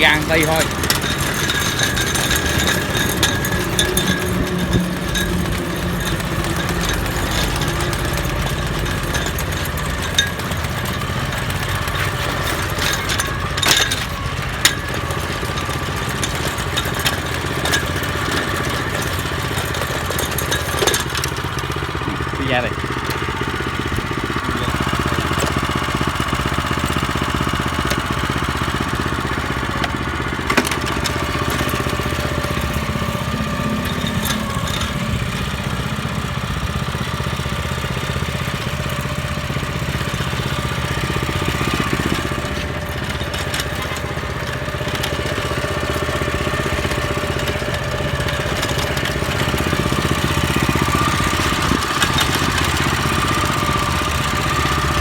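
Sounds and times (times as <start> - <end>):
tiller engine running: 0.0 - 55.0.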